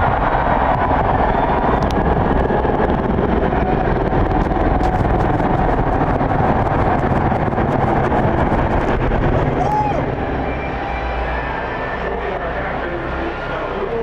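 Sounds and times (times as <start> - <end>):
stadium crowd roaring: 0.0 - 5.2, 7.6 - 14.0.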